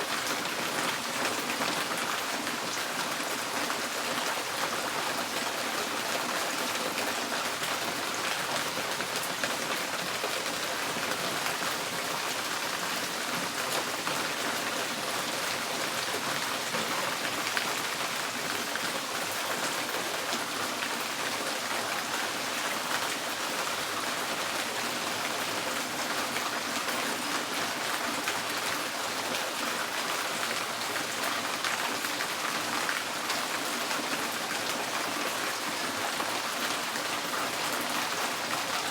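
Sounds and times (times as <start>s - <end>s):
rain on a tin roof: 0.0s - 38.9s.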